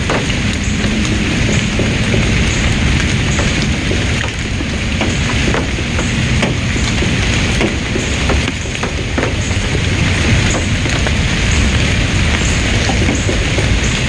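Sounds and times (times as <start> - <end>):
drops ticking on surfaces: 0.0 - 14.0
steady rain: 0.0 - 14.0.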